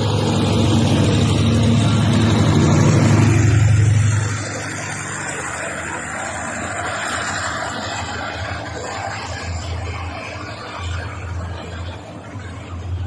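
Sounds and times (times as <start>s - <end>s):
diesel locomotive engine droning: 0.0s - 13.0s
steady rushing noise: 0.0s - 13.0s.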